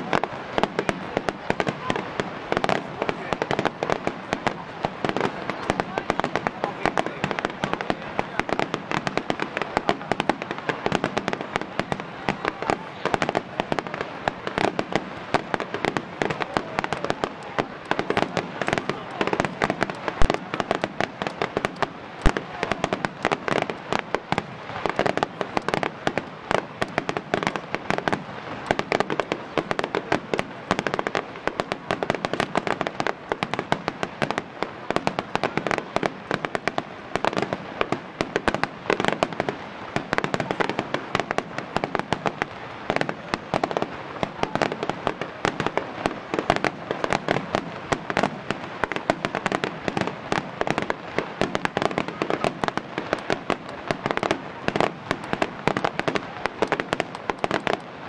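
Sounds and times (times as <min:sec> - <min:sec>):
fireworks bangs and crackles: 0:00.0 - 0:58.0
loud firework report: 0:00.0 - 0:58.0.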